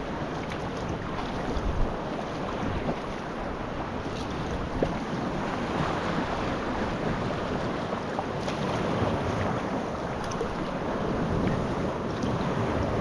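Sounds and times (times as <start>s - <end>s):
sea water washing around kayak: 0.0s - 13.0s
wind noise on microphone: 0.0s - 13.0s.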